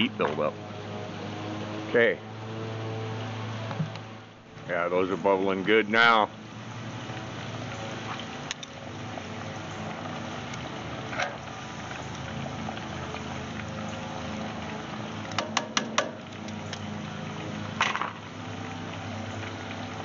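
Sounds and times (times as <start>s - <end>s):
fries sizzling in hot oil: 2.4s - 20.0s.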